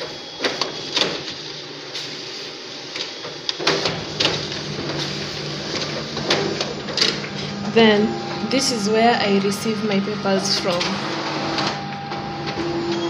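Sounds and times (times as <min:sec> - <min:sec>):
photocopier running hum: 0:00.0 - 0:13.0.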